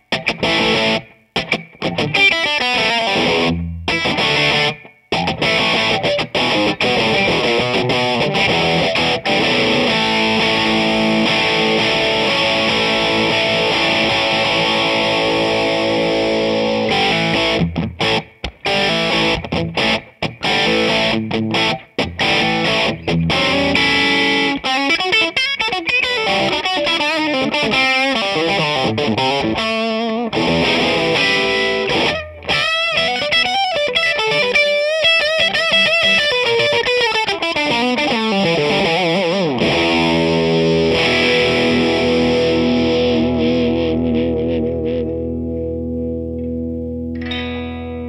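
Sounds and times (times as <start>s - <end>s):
distorted electric guitar lead: 0.0s - 48.0s.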